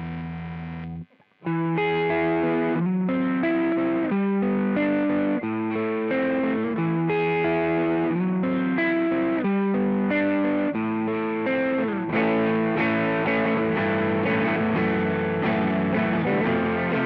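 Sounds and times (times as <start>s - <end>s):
overdriven electric guitar: 0.0s - 17.0s.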